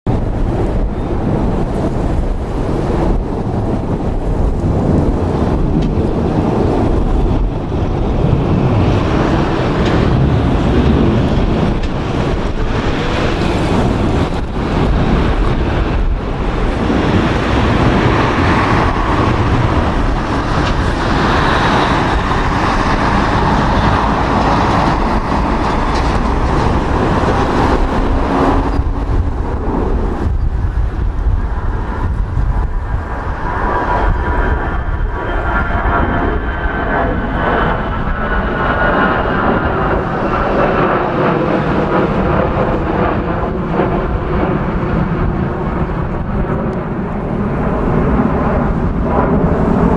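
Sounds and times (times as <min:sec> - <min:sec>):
jet engines rumbling: 0:00.1 - 0:49.9.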